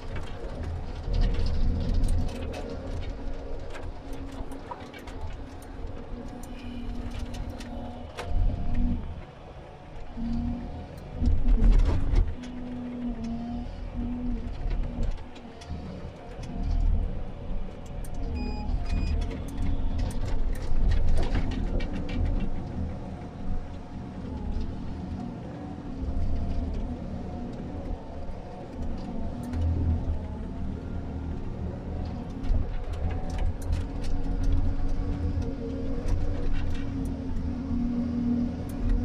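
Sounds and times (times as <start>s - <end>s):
diesel engine under load: 0.0s - 39.0s.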